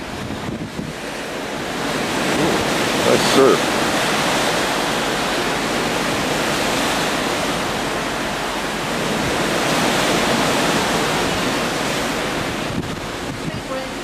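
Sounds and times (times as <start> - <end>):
rough sea: 0.0 - 14.0.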